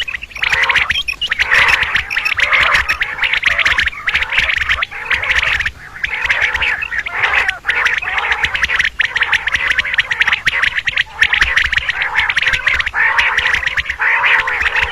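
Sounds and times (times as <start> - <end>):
quail calls: 0.0 - 14.9.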